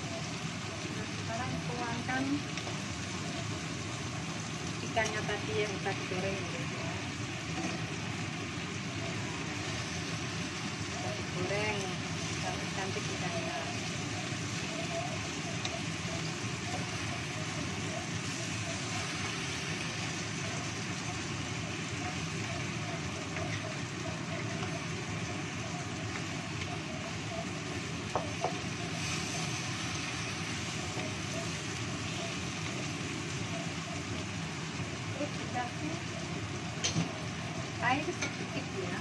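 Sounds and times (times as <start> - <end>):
food sizzling in a wok: 0.0 - 39.0.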